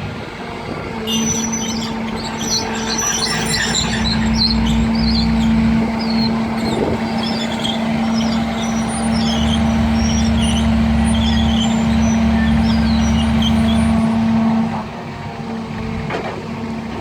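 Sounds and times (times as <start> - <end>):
diesel engine running: 0.5 - 15.0.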